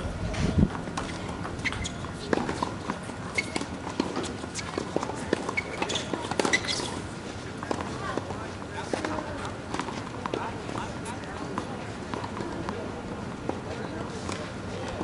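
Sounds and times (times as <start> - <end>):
tennis balls bouncing and hit: 0.7 - 15.0.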